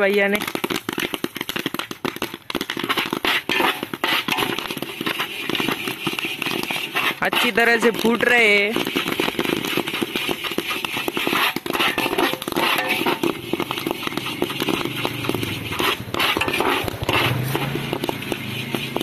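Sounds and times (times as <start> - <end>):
popcorn popping: 0.0 - 19.0
metal scoop scraping through sand: 2.9 - 19.0.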